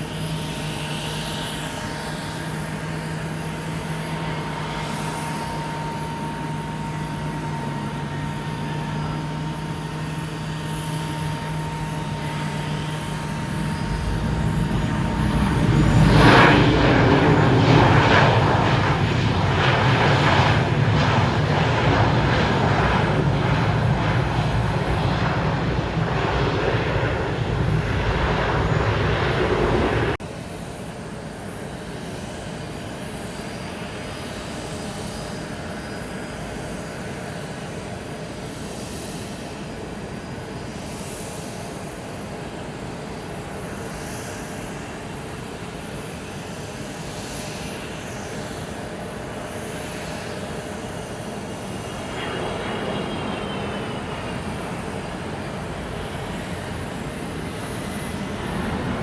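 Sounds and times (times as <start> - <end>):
jet engine noise with faint whine: 0.0 - 59.0
jet engines running loud: 0.0 - 59.0.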